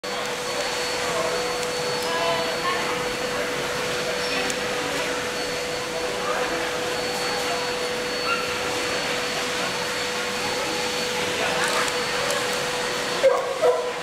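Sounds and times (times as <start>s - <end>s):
constant hum: 0.0s - 14.0s
faint indistinct voices: 0.0s - 14.0s.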